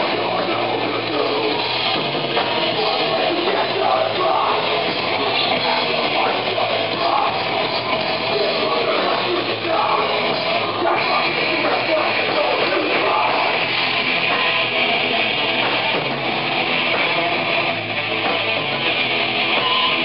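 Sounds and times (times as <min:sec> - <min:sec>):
distorted electric guitars: 0:00.0 - 0:20.0
drum kit: 0:00.0 - 0:20.0.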